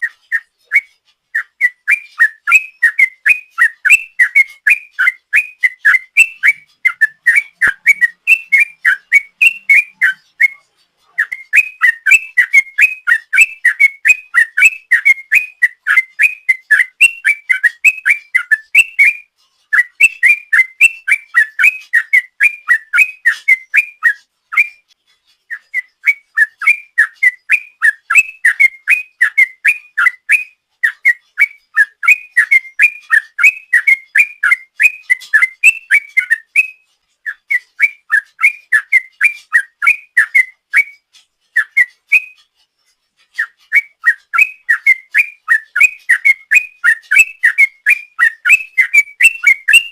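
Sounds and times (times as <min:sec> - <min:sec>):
bird singing bubbling whistles: 0:00.0 - 0:10.6, 0:11.2 - 0:24.8, 0:25.5 - 0:41.0, 0:41.6 - 0:42.4, 0:43.4 - 0:49.9.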